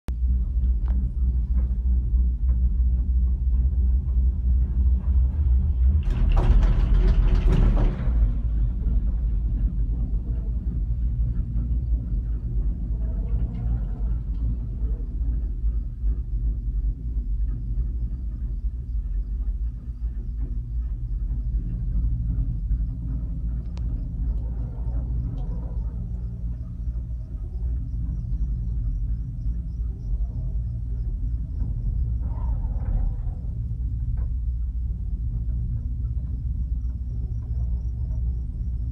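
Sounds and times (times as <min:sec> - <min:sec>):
gondola cabin rumbling on cable: 0:00.1 - 0:38.9.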